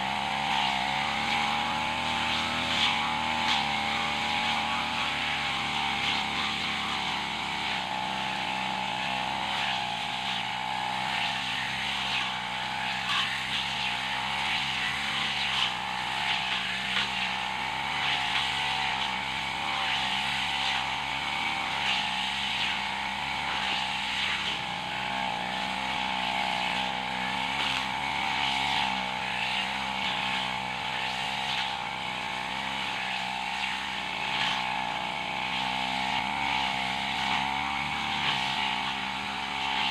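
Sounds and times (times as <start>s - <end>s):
blade ticking through grass: 0.0s - 39.9s
brush cutter engine running: 0.0s - 39.9s.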